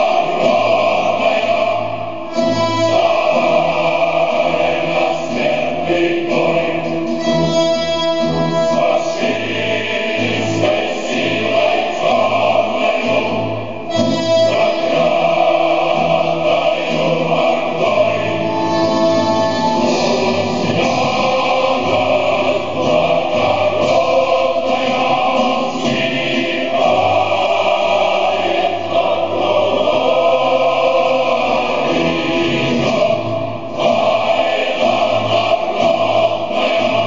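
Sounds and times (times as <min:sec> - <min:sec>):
choir singing: 0:00.0 - 0:37.0
instrumental accompaniment: 0:02.3 - 0:37.0.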